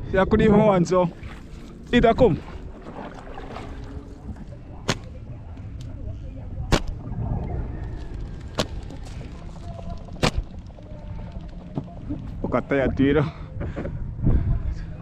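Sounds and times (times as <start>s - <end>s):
low rumble of water and wind: 0.0s - 15.0s.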